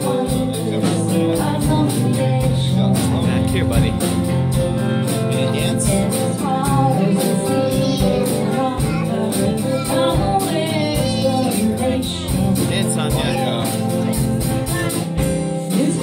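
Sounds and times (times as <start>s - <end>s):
woman singing: 0.0s - 3.6s, 5.4s - 16.0s
drum kit beat: 0.0s - 16.0s
live band playing: 0.0s - 16.0s.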